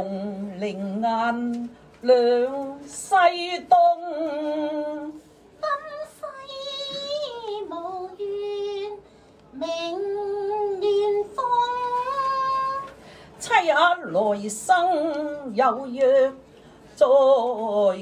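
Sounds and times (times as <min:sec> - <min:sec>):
opera duet singing: 0:00.0 - 0:09.0, 0:09.6 - 0:16.4.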